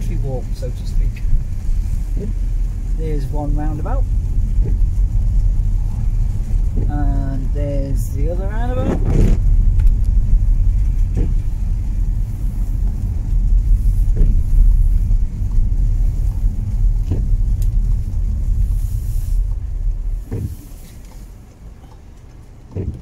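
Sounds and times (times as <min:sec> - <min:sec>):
car engine and tyres on wet road: 0:00.0 - 0:23.0
windscreen wiper sweep: 0:00.0 - 0:23.0.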